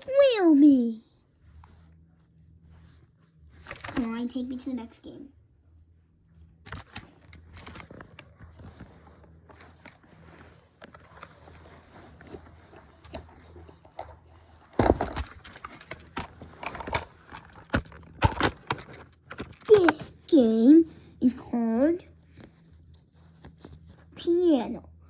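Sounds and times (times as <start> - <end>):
faint low hum: 0.0 - 25.0
toys handled with scrapes and rustles: 2.7 - 4.9, 6.4 - 24.4.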